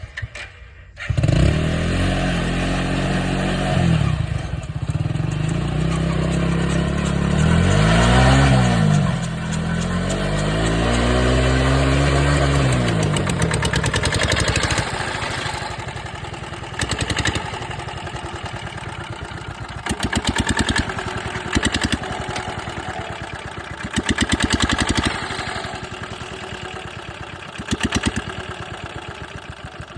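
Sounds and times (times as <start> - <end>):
engine revving and idling: 0.9 - 29.9.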